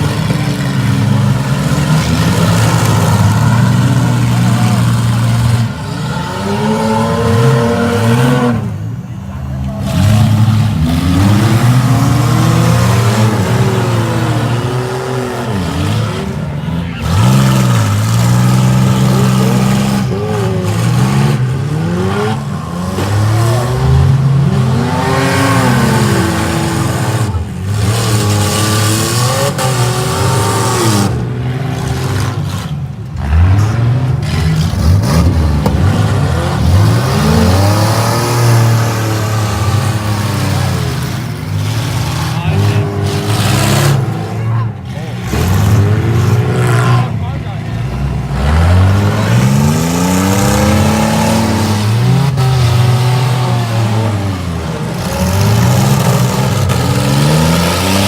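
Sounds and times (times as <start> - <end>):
minivan engines revving: 0.0 - 58.0.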